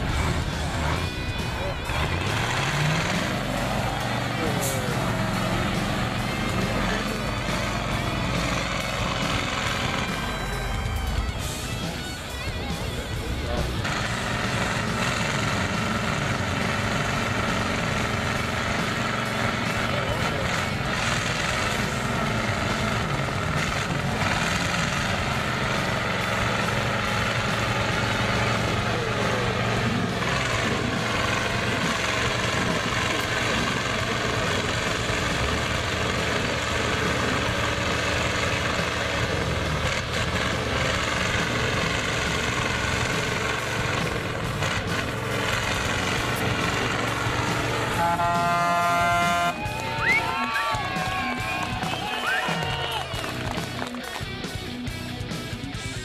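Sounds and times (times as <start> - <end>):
truck horn: 0.0 - 53.1
truck engine under load: 0.0 - 56.0.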